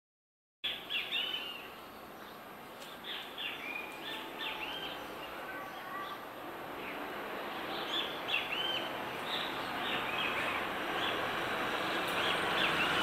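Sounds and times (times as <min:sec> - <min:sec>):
birds chirping: 0:00.6 - 0:13.0
steady background hiss: 0:00.7 - 0:13.0.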